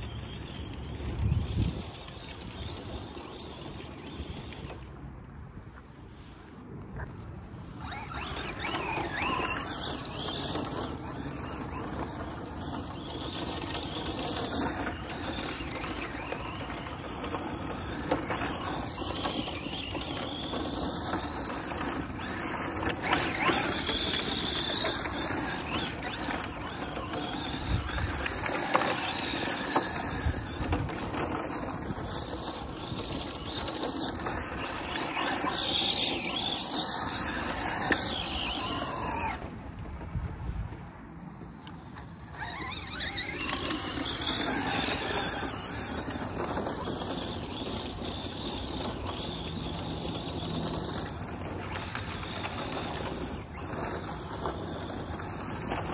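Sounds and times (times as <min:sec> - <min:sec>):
electric motor whining: 0:00.0 - 0:05.0, 0:07.7 - 0:39.6, 0:41.6 - 0:55.9
tyres spraying dirt: 0:07.8 - 0:39.4, 0:42.4 - 0:55.9.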